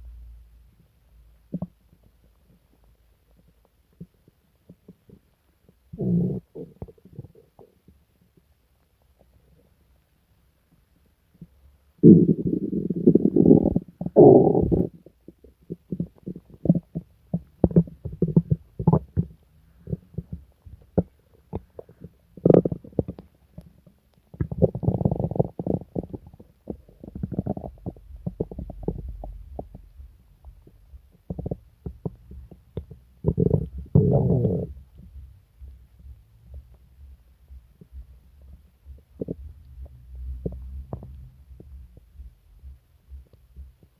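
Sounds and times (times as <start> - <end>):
stomach growling and gurgling: 1.5 - 8.5, 11.3 - 35.2, 37.7 - 42.2.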